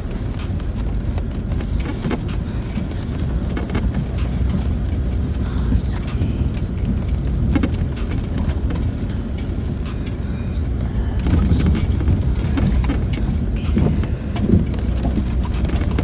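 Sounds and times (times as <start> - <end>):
engine and tyre rumble: 0.0 - 16.0
knocks and rattles over bumps: 0.0 - 16.0.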